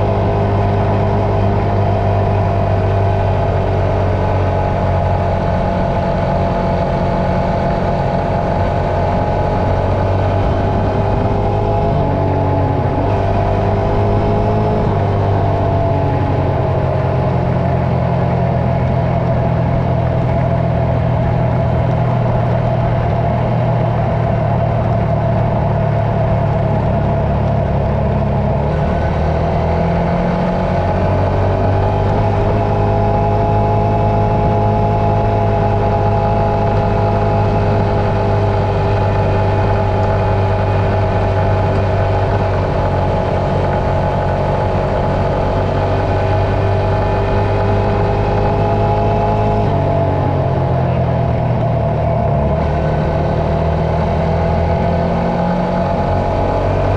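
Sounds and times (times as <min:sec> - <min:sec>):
vehicle engine running: 0:00.0 - 0:56.9.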